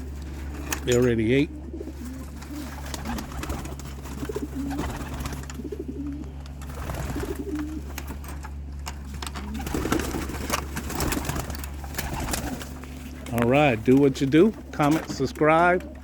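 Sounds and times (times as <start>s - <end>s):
pigeons cooing: 0.0s - 16.0s
steady low hum: 0.0s - 16.0s.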